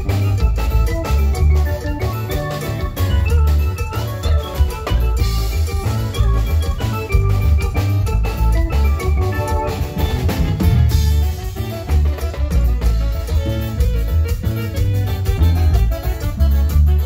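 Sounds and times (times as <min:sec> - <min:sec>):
drum kit beat: 0:00.0 - 0:17.0
guitar: 0:00.0 - 0:17.0
heavy bass line: 0:00.0 - 0:17.0
keyboard organ chords: 0:00.0 - 0:17.0.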